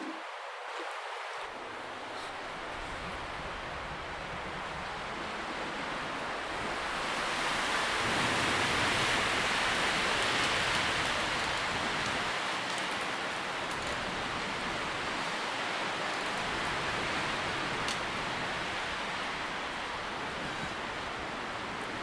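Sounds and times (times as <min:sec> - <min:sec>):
wind rustling tree leaves: 0:00.0 - 0:22.0.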